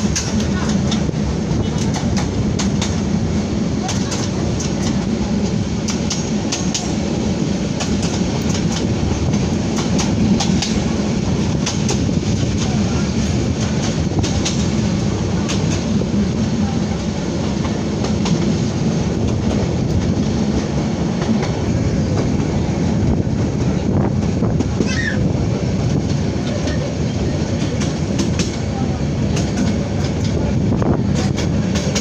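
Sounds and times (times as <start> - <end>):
train rolling rumble: 0.0 - 32.0
train wheels clicking and clacking: 0.0 - 32.0.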